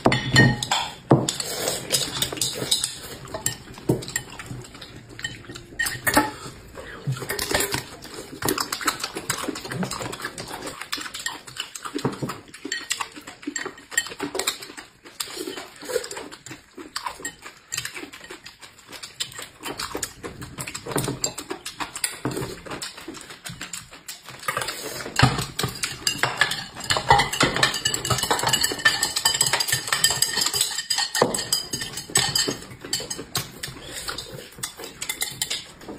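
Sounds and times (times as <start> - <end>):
chewing and slurping: 0.0 - 35.9
chopsticks clattering on bowls: 0.0 - 35.9.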